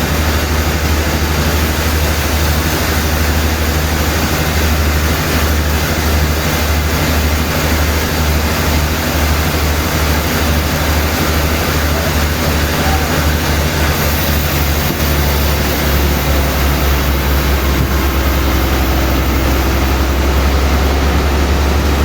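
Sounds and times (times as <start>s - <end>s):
loud hiss: 0.0s - 22.0s
sawmill machinery hum: 0.0s - 22.0s.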